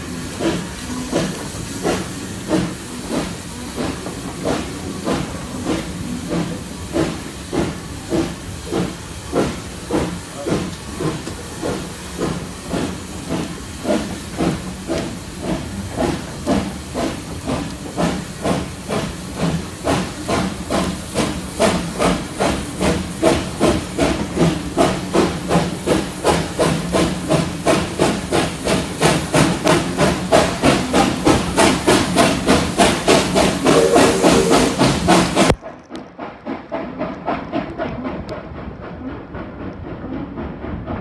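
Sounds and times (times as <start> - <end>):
steady hiss of steam: 0.0 - 35.6
steam locomotive exhaust beats: 0.0 - 41.0.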